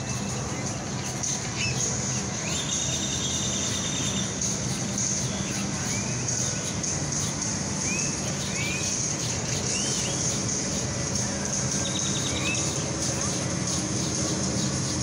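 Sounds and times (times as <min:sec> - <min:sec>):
bird chirps: 0:00.0 - 0:11.0, 0:11.7 - 0:15.0.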